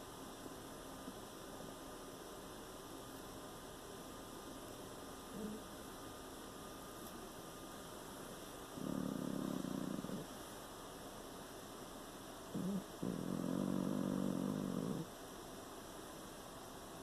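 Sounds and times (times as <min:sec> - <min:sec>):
faint hiss: 0:00.0 - 0:17.0
steady low hum: 0:00.0 - 0:17.0.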